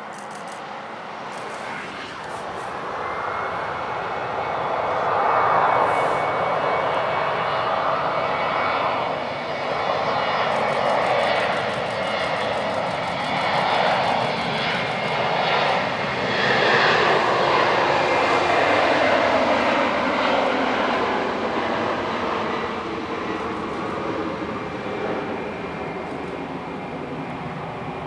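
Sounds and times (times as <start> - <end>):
jet airliner taking off: 0.0 - 28.0.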